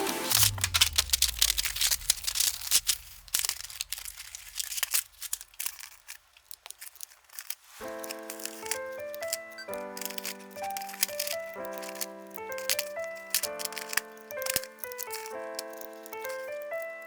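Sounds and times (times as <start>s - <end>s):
rustling: 0.0s - 17.0s
plastic clicks and snaps: 0.3s - 17.0s.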